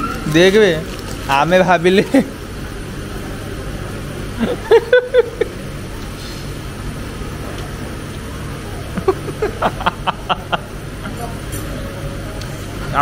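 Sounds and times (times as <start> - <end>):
restaurant room hum: 0.0 - 13.0.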